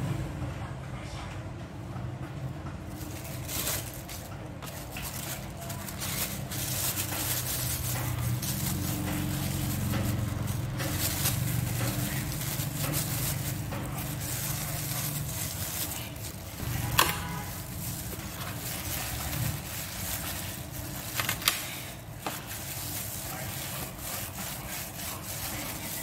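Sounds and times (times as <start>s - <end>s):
low background hum: 0.0s - 26.0s
plastic gloves crinkling: 2.8s - 26.0s.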